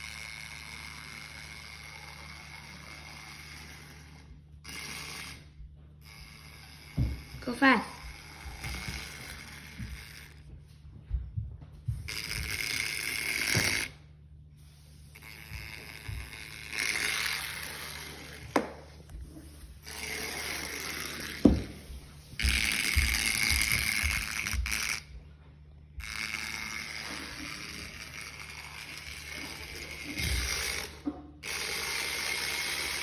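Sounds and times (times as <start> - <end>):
electric motor whirring: 0.0 - 10.5, 11.9 - 25.2, 25.9 - 33.0.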